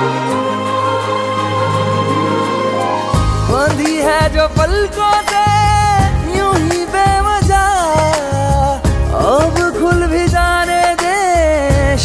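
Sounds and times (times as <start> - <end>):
romantic film song music: 0.0 - 12.0.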